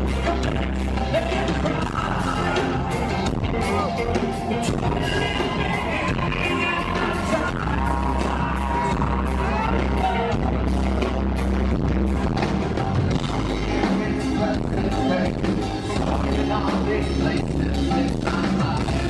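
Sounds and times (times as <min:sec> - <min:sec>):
man singing: 0:00.0 - 0:10.8, 0:13.1 - 0:19.0
drums: 0:00.0 - 0:19.0
keyboards: 0:00.0 - 0:19.0
upright bass: 0:00.0 - 0:19.0.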